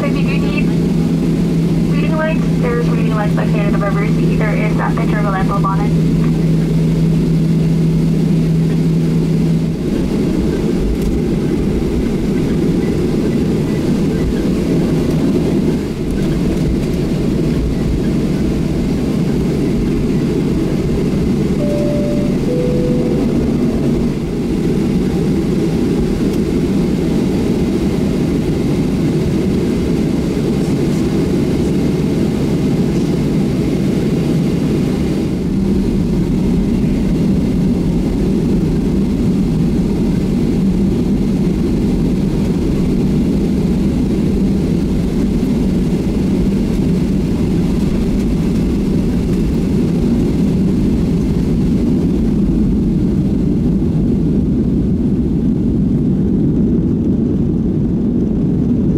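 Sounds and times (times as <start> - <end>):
jet engines low rumble: 0.0 - 58.9.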